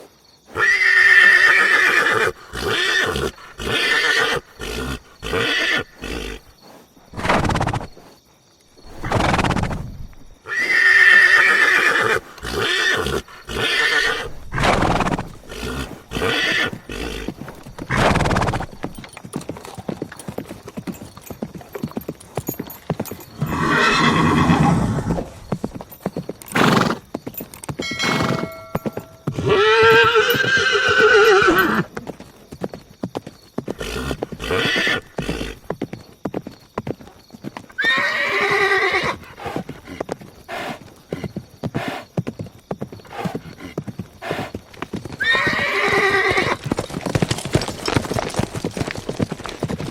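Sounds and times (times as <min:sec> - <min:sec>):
horses neighing: 0:00.5 - 0:08.0, 0:08.8 - 0:32.0, 0:33.6 - 0:35.8, 0:37.7 - 0:42.2, 0:42.9 - 0:49.9
hooves clopping on hard ground: 0:01.9 - 0:49.9.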